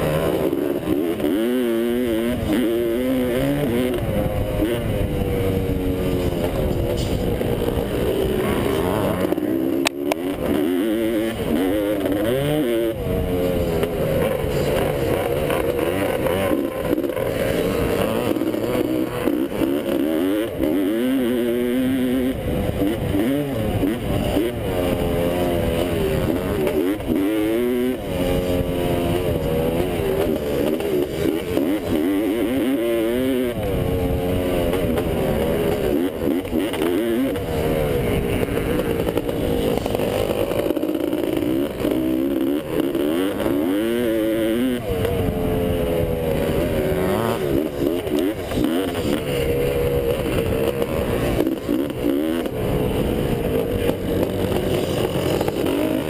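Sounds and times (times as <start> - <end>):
rough wind noise: 0.0 - 56.0
two-stroke motorcycle engine revving: 0.0 - 56.0.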